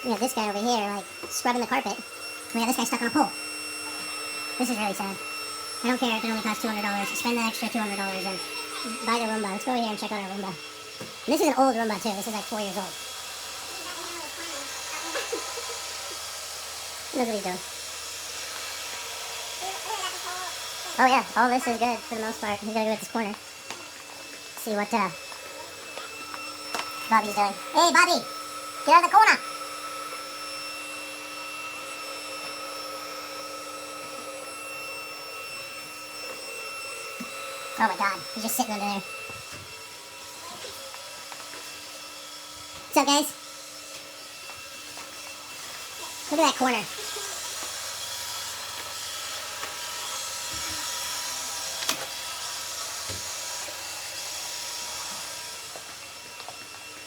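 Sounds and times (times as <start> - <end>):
robot vacuum motor whine: 0.0 - 57.0.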